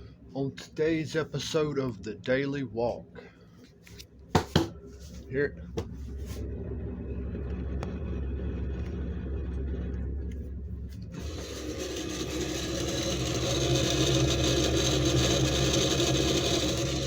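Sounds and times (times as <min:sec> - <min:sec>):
refrigerator humming: 0:00.0 - 0:17.0
rough whirring fridge fan: 0:03.2 - 0:17.0.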